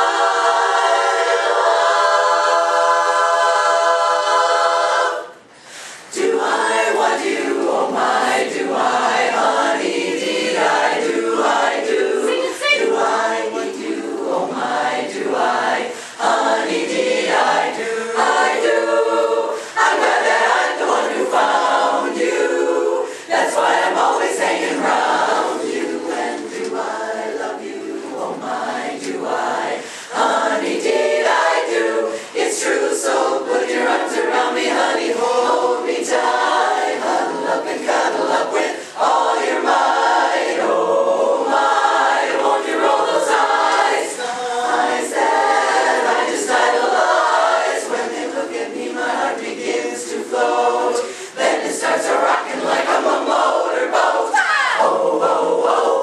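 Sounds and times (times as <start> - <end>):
women's chorus singing: 0.0 - 56.0.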